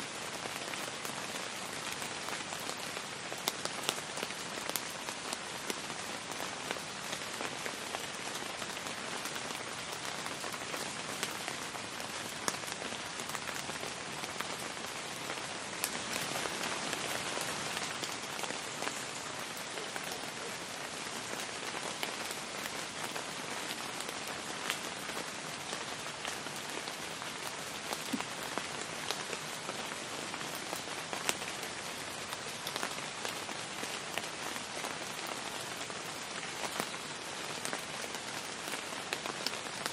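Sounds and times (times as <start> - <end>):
rain falling: 0.0 - 39.9
raindrops hitting close by: 0.0 - 39.9.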